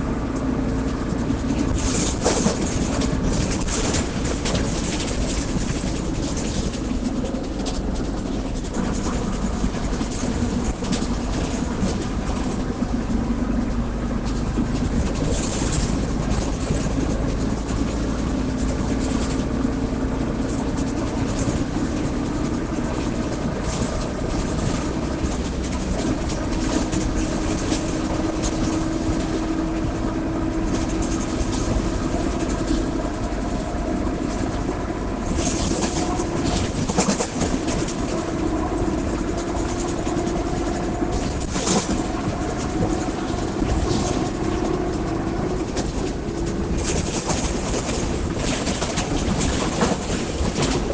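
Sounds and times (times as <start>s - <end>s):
bus differential growling: 0.0s - 50.9s
low drivetrain rumble: 0.0s - 50.9s
rattles and knocks: 0.3s - 12.9s, 14.2s - 50.9s.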